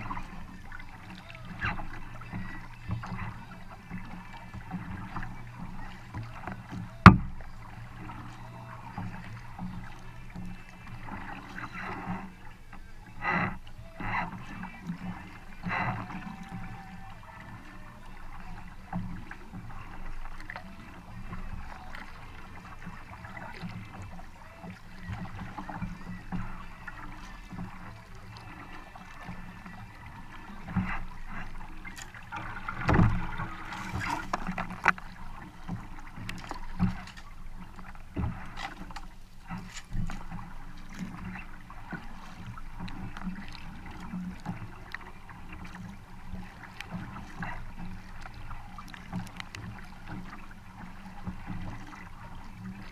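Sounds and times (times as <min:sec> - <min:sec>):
paddle splashing in water: 0:00.0 - 0:52.9
water dripping off paddle: 0:00.0 - 0:52.9.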